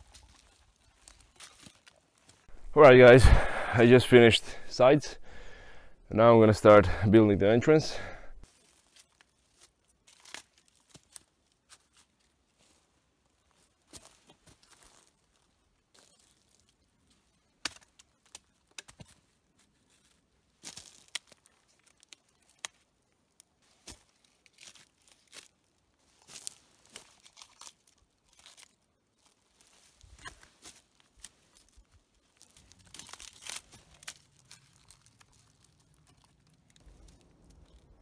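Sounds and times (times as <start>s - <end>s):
dry crackling rustle: 0.0s - 6.0s, 8.4s - 38.0s.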